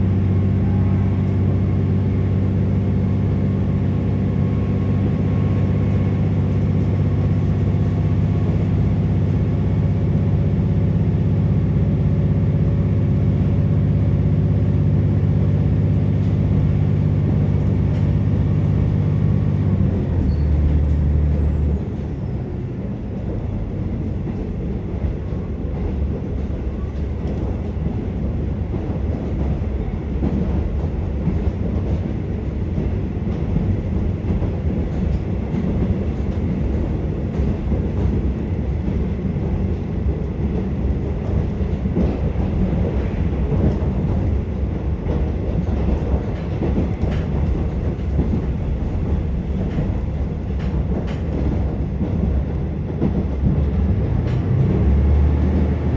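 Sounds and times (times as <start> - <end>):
diesel railcar engine running: 0.0 - 55.9
wheels rumbling on rail: 0.0 - 55.9.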